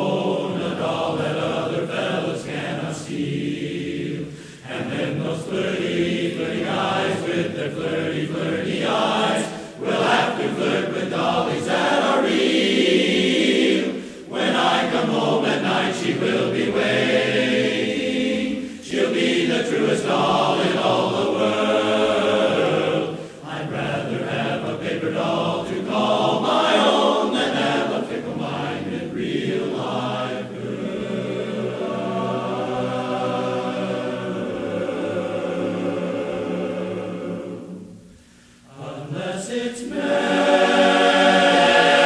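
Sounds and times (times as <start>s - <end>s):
male chorus singing a cappella: 0.0s - 42.0s.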